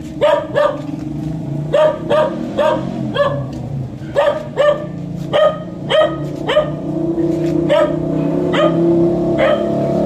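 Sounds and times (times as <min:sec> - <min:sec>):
dog barking: 0:00.2 - 0:00.9, 0:01.7 - 0:06.8, 0:07.6 - 0:09.9.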